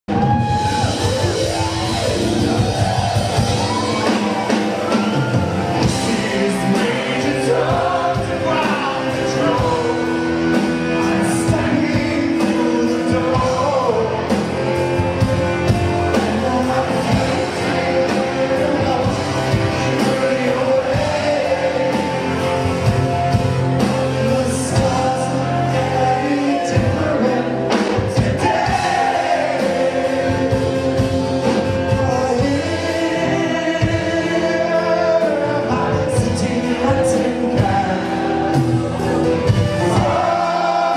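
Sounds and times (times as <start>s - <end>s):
rock song with singer and band: 0.1s - 40.9s.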